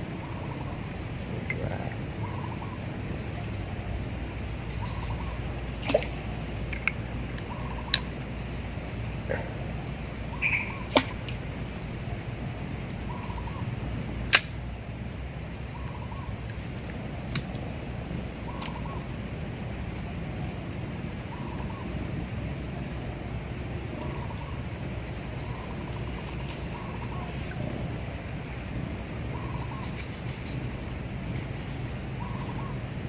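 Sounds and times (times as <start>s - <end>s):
riverside background noise: 0.0s - 33.0s.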